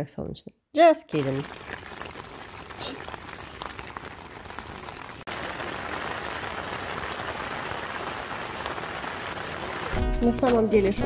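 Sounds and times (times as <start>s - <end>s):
heavy rain on tent: 1.1s - 11.0s.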